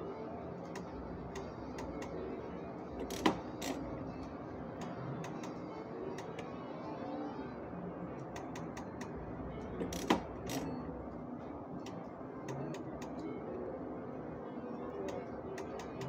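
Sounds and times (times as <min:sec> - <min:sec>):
casino background noise: 0:00.0 - 0:16.0.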